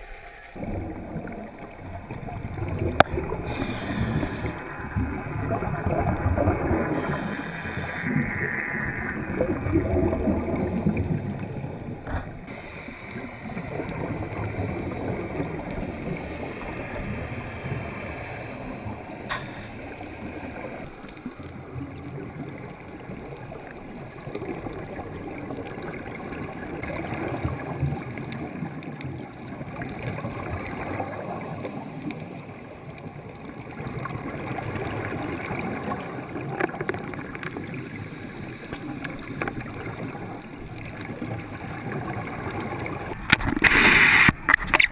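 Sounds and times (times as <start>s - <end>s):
exhaled bubbles: 0.0s - 44.9s
muffled underwater gurgling rush: 0.0s - 44.9s.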